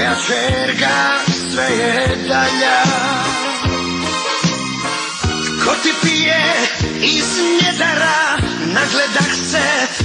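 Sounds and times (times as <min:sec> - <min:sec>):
pop song with steady beat: 0:00.0 - 0:10.0.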